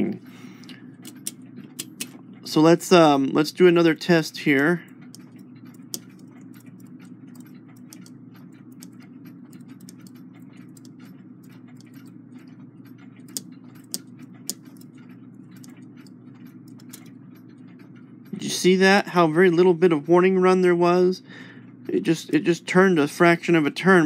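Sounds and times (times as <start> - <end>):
clock movement ticking and clicking: 0.0 - 24.0
low hum: 0.0 - 24.0.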